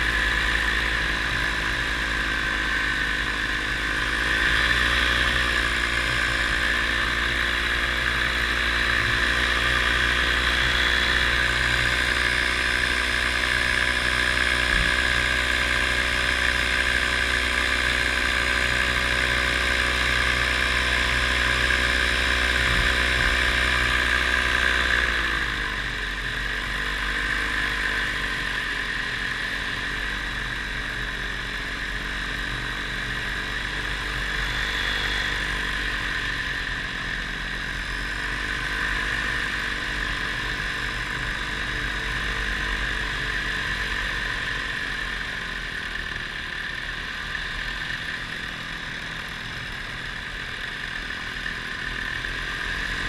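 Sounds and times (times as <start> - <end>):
paramotor engine and propeller: 0.0 - 53.0.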